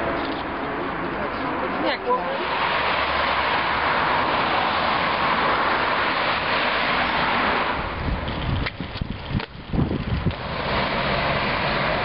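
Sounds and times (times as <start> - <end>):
traffic passing: 0.0 - 12.0.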